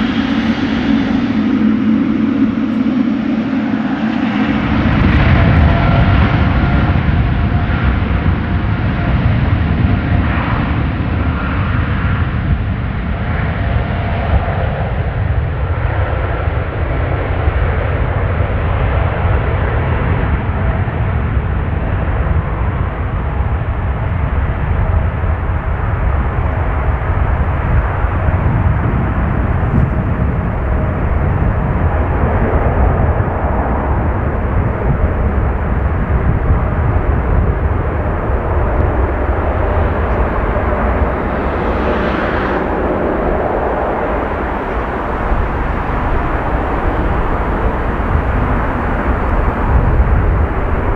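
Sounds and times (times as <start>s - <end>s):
jet engines rumbling: 0.0s - 50.9s.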